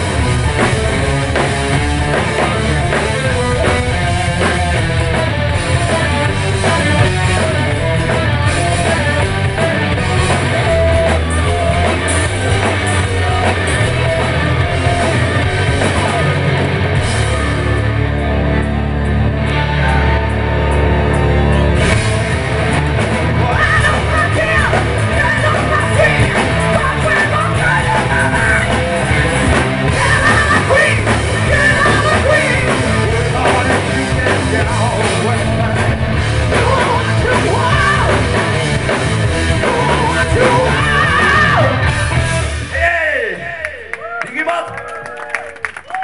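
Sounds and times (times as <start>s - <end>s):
live rock band playing: 0.0s - 43.5s.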